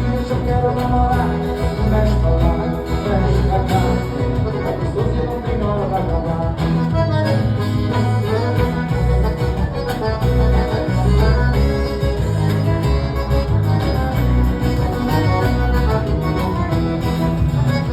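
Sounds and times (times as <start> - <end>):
instrumental forro music: 0.0 - 17.9
pulsing bass beat: 0.0 - 17.9.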